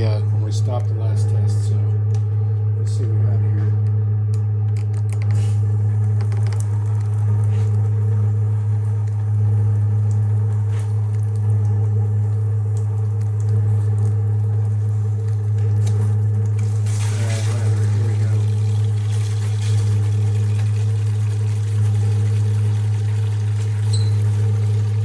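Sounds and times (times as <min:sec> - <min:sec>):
water heater fan humming: 0:00.0 - 0:25.0.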